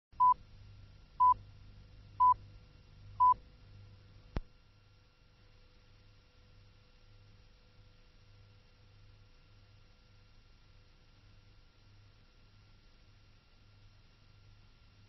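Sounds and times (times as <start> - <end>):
faint low hum: 0.2 - 15.0.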